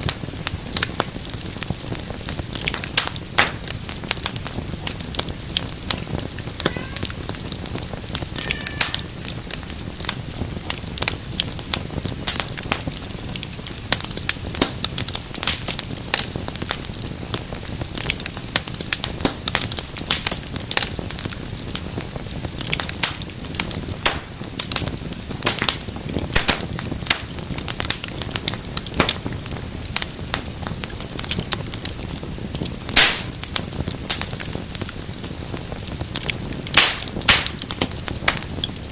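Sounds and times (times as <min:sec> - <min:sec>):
low rumble of flame: 0:00.0 - 0:38.9
wood fire crackling and popping: 0:00.0 - 0:38.9.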